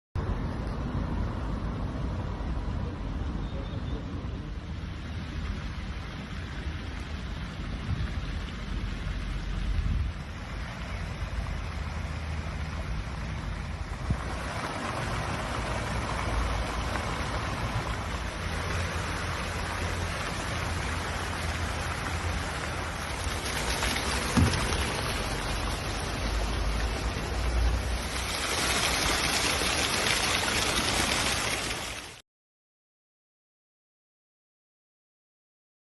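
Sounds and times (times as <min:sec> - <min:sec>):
fountain water splashing: 0:01.0 - 0:32.2.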